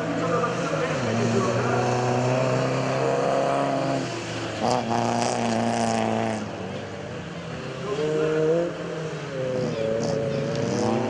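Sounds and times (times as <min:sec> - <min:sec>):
race vehicle engines revving: 0:00.0 - 0:11.0.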